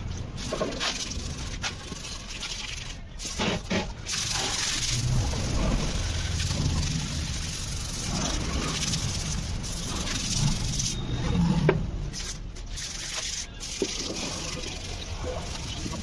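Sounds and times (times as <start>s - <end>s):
hands scrubbing sheet metal: 0.4s - 11.0s, 12.1s - 16.0s.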